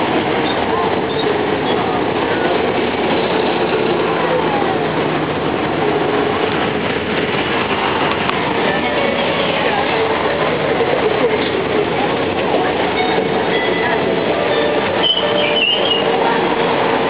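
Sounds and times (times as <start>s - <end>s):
bus passing close: 0.0s - 17.0s
road train running on tyres: 0.0s - 17.0s.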